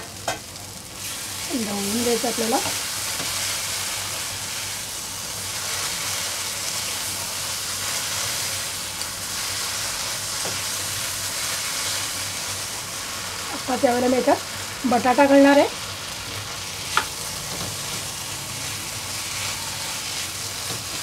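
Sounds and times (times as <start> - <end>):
masala sizzling in a pan: 0.0 - 21.0.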